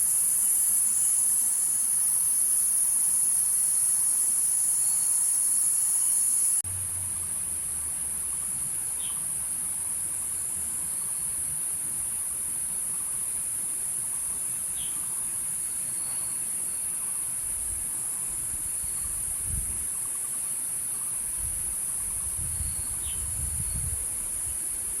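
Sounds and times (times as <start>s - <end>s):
cicadas singing: 0.0s - 25.0s.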